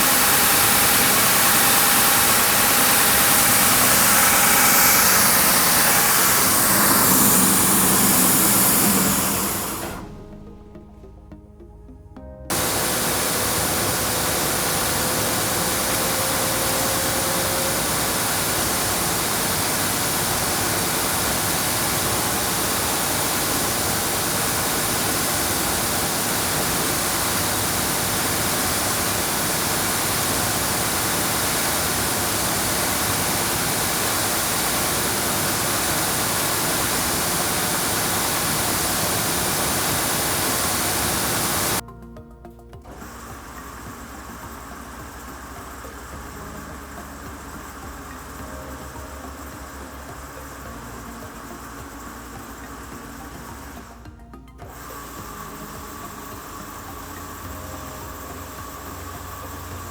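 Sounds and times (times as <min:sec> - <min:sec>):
belt sander running: 0:00.0 - 0:10.6, 0:12.5 - 0:41.9, 0:42.8 - 0:59.9.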